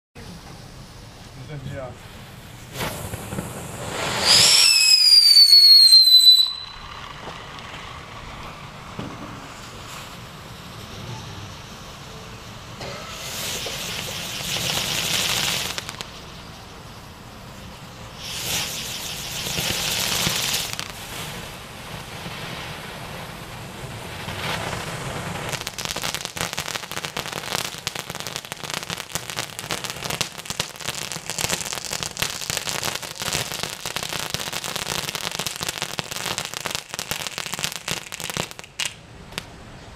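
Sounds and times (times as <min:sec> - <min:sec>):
firework crackling: 0:00.2 - 0:39.6
firework hissing: 0:00.2 - 0:39.6.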